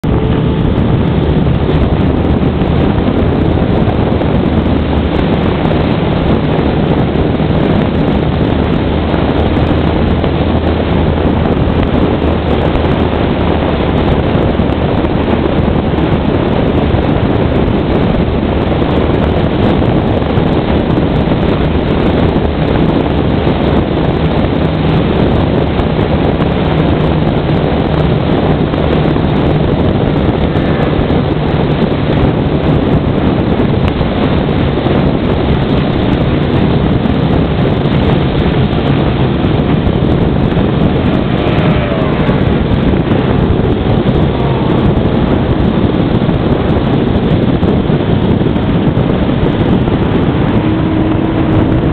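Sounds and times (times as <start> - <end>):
boat engine drone: 0.0 - 51.9
water rushing past hull: 0.0 - 51.9
wind buffeting microphone: 0.0 - 51.9.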